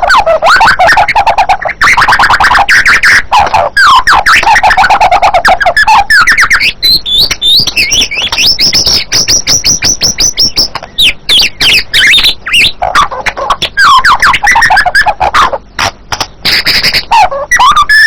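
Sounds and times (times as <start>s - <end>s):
bird singing whistled notes: 0.0s - 15.8s, 16.4s - 18.0s.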